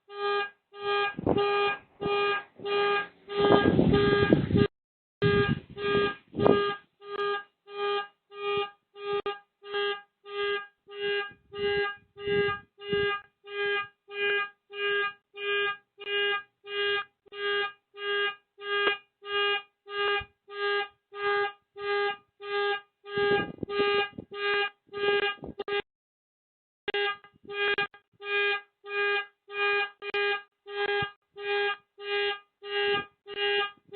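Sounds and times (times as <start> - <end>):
car horn honking: 0.1 - 25.8, 26.9 - 33.8.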